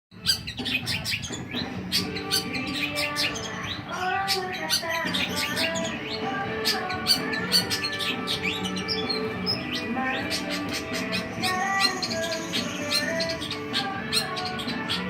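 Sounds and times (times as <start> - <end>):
bird chirping and twittering: 0.1 - 15.0.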